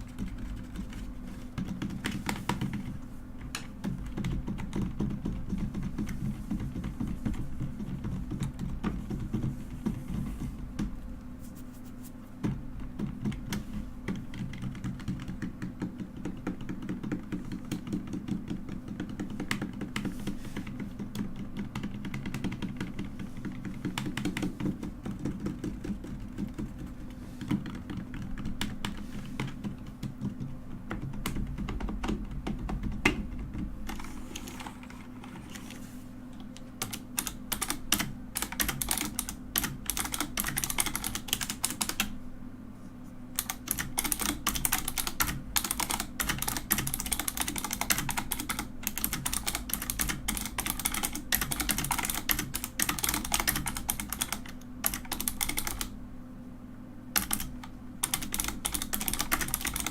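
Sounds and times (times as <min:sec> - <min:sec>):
mechanical keyboard typing: 0:00.0 - 0:10.4, 0:12.8 - 0:35.8, 0:36.5 - 0:42.2, 0:43.4 - 0:56.0, 0:57.2 - 0:59.9
steady low hum: 0:00.0 - 0:59.9.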